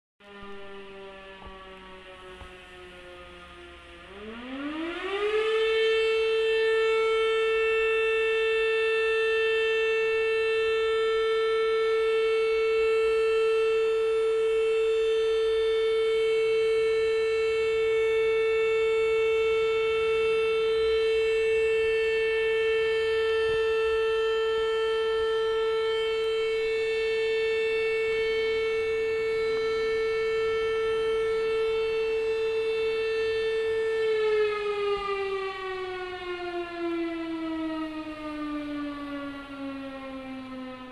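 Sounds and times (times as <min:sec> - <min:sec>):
siren wailing: 0:00.2 - 0:40.9.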